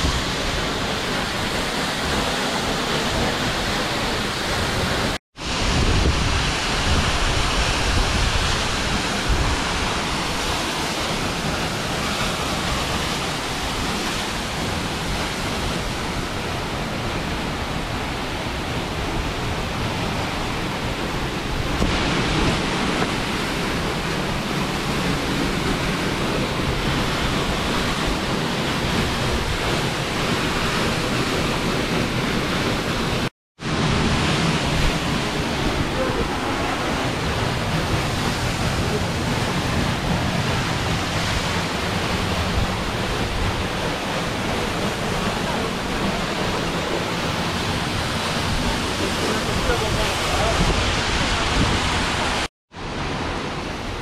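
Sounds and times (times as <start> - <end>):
waterfall rushing onto rocks: 0.0 - 54.0.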